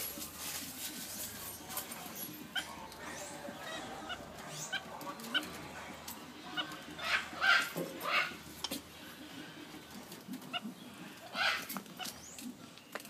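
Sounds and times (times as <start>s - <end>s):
monkeys squeaking: 0.0s - 8.8s, 10.4s - 12.4s.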